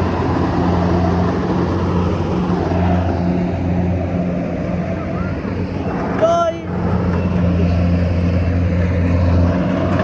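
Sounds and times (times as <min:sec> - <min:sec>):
combine harvester diesel engine drone: 0:00.0 - 0:10.0
dense mechanical noise: 0:00.0 - 0:10.0.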